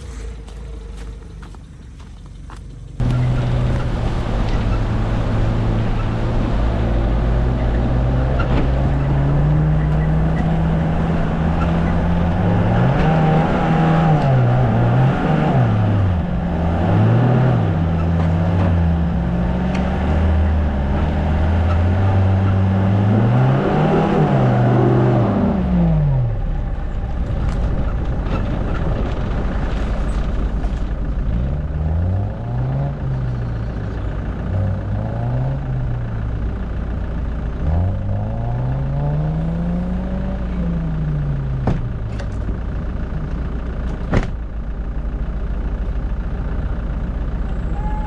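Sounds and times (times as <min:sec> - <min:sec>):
off-road vehicle engine revving: 0:00.0 - 0:42.5.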